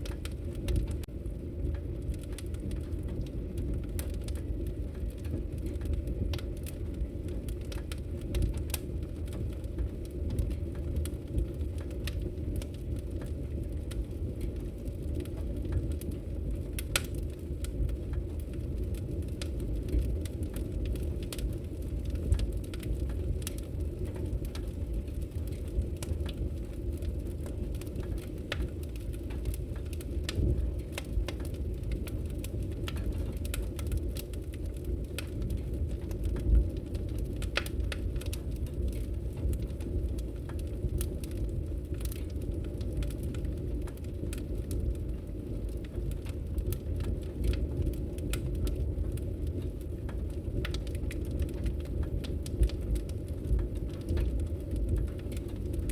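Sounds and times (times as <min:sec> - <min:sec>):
low fire rumble: 0:00.0 - 0:55.9
wood logs crackling and popping: 0:00.0 - 0:55.9.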